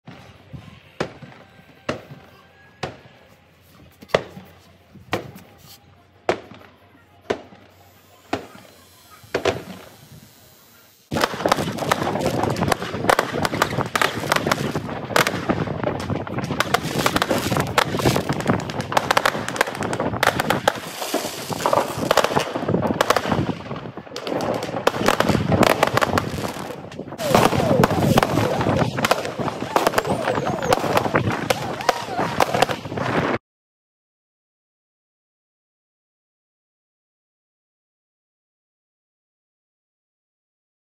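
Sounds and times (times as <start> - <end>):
dense fireworks crackle: 0.1 - 33.4
fireworks bangs: 0.1 - 33.4.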